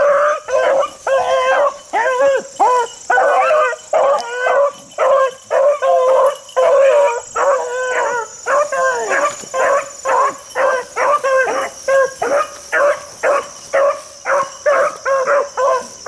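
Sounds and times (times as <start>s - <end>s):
beagles baying: 0.0s - 16.0s.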